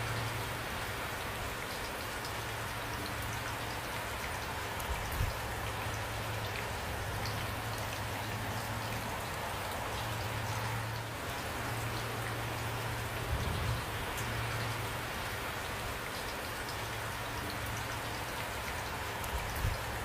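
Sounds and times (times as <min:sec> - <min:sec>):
raindrops ticking on a surface: 0:00.0 - 0:20.0
steady rain falling: 0:00.0 - 0:20.0.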